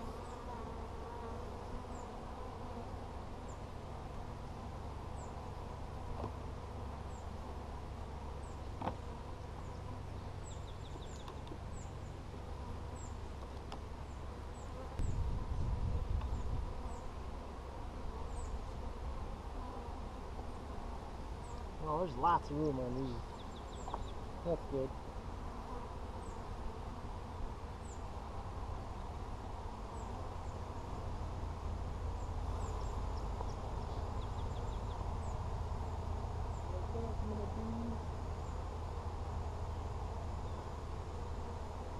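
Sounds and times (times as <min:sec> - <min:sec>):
honey bees buzzing: 0:00.0 - 0:41.9.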